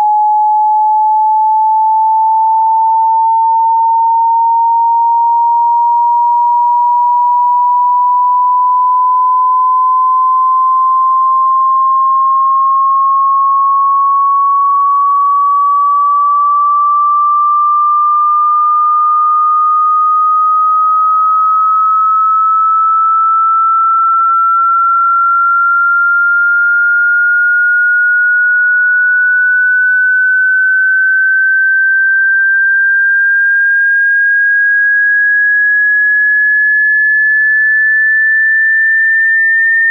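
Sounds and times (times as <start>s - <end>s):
sine wave tone sweeping upward: 0.0s - 39.9s.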